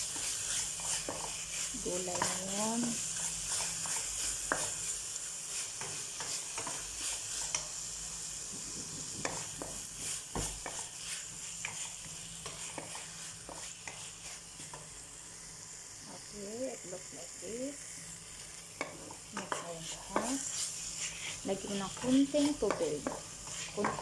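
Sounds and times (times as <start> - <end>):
utensil scraping a pan: 0.0 - 7.8, 8.5 - 14.9, 18.8 - 24.0
meat sizzling in a frying pan: 0.0 - 24.0.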